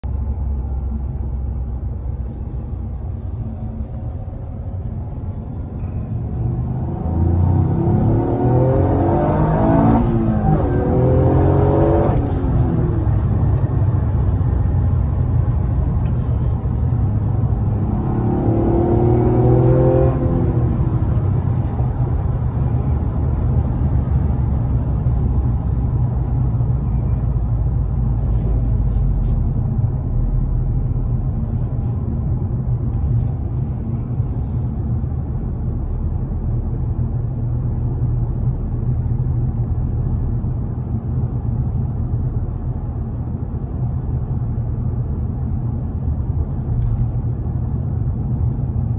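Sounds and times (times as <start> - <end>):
car engine droning: 0.0 - 48.9
road noise: 0.0 - 48.9.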